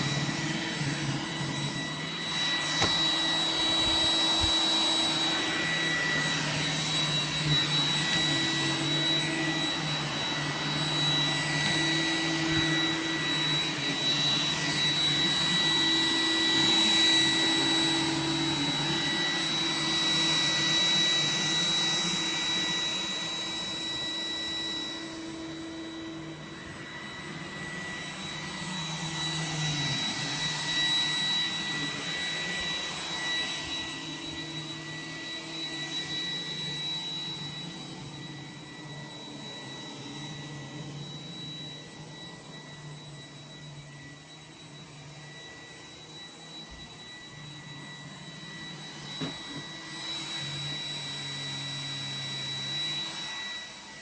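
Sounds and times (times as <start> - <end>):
robot vacuum whining: 0.0 - 54.0.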